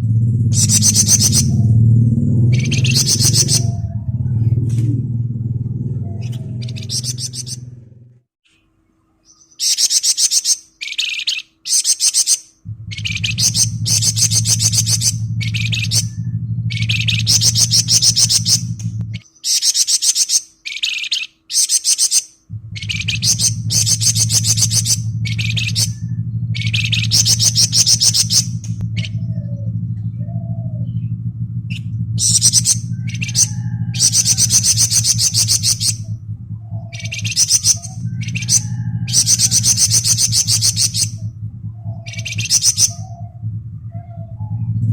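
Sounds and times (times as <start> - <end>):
steady low hum: 0.0 - 44.9
songbird rattling trills: 0.4 - 4.4, 5.0 - 7.8, 9.3 - 44.9.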